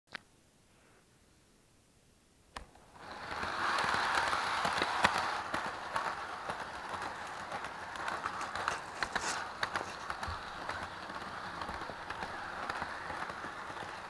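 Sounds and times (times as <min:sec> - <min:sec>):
wheels clicking on track: 0:02.6 - 0:14.0
toy train motor whirring: 0:02.7 - 0:14.0.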